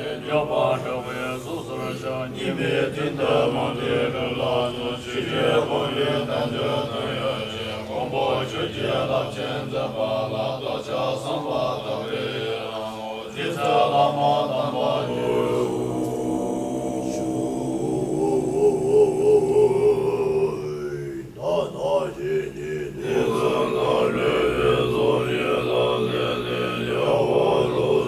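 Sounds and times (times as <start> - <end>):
monks chanting in low voices: 0.0 - 28.0.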